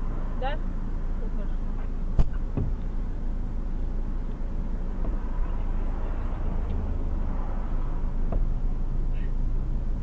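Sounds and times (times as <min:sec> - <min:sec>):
low rumble inside car: 0:00.0 - 0:10.0
road traffic passing: 0:00.0 - 0:10.0.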